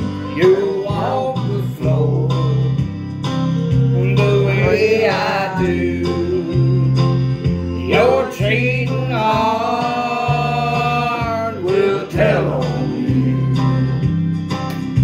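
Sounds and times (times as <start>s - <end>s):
country song karaoke singing: 0.0s - 15.0s
steady bass line: 0.0s - 15.0s.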